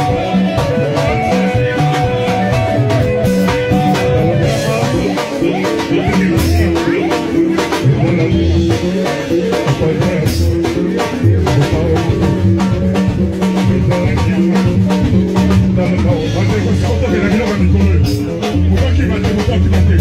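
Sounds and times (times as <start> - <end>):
drum beat: 0.0 - 20.0
live band playing dance music: 0.0 - 20.0
person singing: 0.0 - 20.0.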